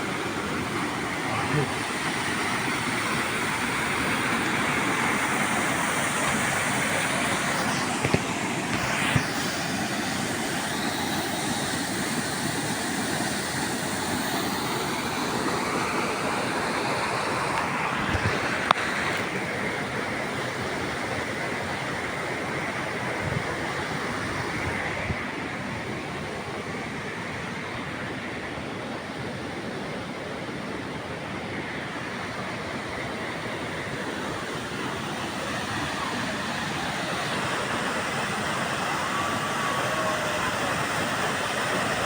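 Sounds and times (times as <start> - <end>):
waterfall roaring: 0.0 - 28.1, 31.4 - 42.0.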